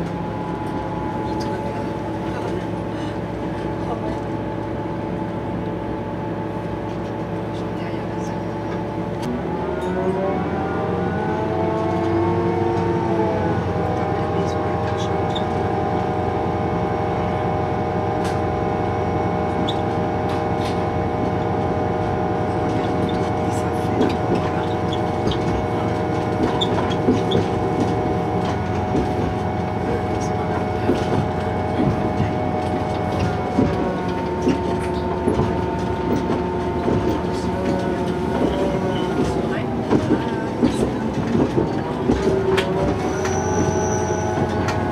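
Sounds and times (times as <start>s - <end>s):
railcar engine rising tones: 0.0s - 44.9s
train rumble and hum: 0.0s - 44.9s.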